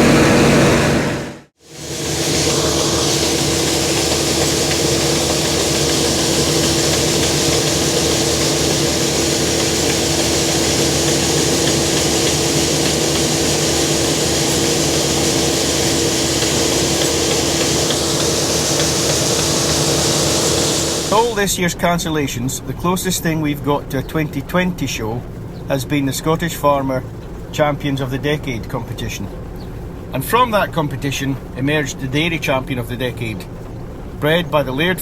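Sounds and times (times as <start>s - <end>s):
combine harvester drone: 0.0s - 35.0s.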